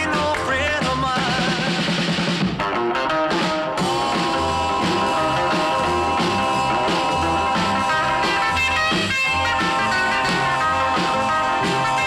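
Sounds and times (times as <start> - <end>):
rock and roll music: 0.0 - 12.0.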